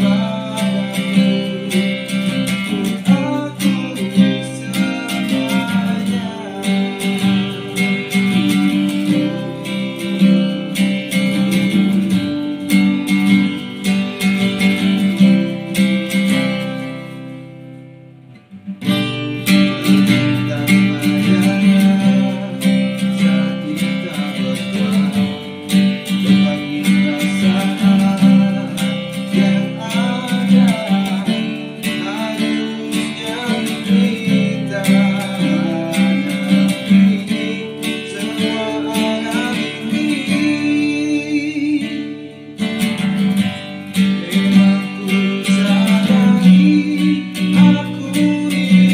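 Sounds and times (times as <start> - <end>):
man singing: 0.0 - 17.7, 18.8 - 48.9
acoustic guitar strumming: 0.0 - 48.9.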